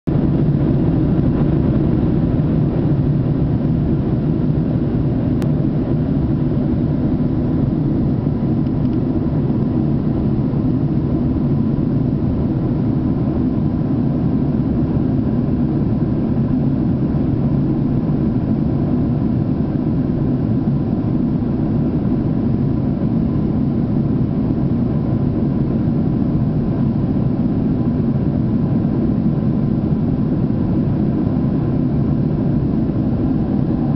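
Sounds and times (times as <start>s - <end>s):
airplane engine rumble: 0.0s - 33.9s.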